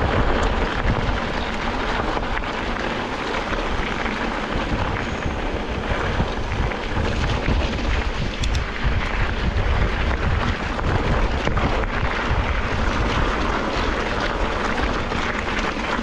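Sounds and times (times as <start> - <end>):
bike rolling over gravel: 0.0 - 16.0
wind buffeting microphone: 0.0 - 16.0.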